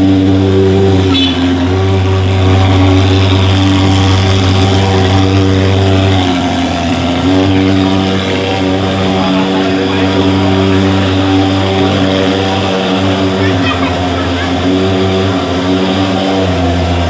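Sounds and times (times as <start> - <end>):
fogging machine buzzing: 0.0 - 17.0.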